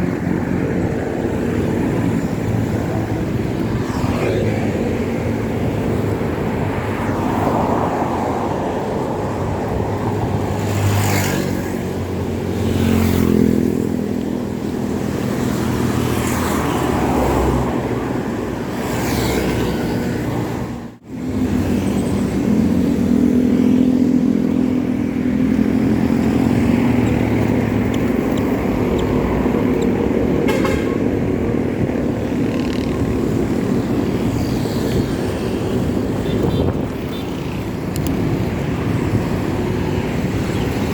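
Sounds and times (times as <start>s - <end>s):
cars and motorcycles passing: 0.0s - 40.9s.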